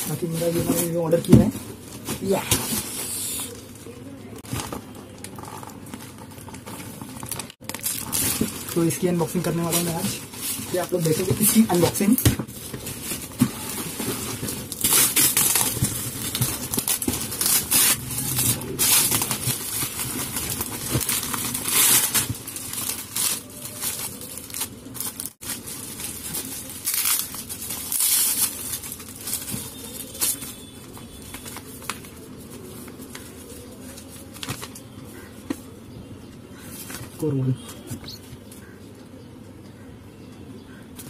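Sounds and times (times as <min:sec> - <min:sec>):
plastic packaging crinkling and tearing: 0:00.0 - 0:35.3.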